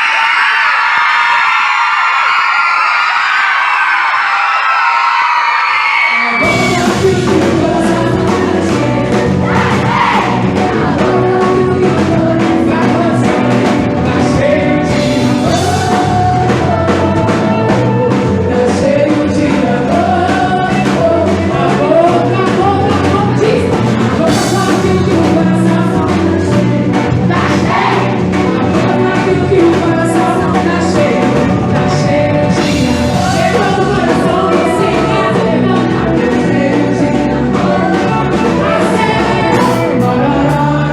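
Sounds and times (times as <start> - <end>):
gospel song with band: 0.0 - 40.9.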